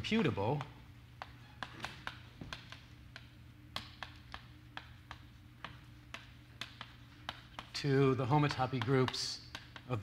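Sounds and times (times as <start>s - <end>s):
low room hum: 0.0s - 10.0s
chalk clicking on a blackboard: 0.3s - 10.0s.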